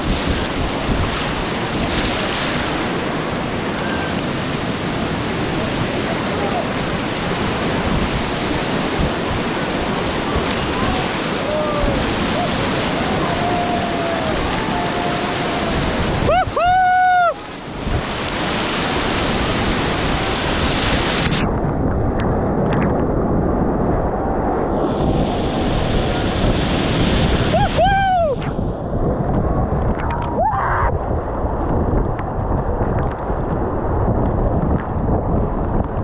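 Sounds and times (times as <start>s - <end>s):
rushing river water: 0.0s - 21.6s, 24.6s - 36.0s
wind buffeting microphone: 0.0s - 36.0s.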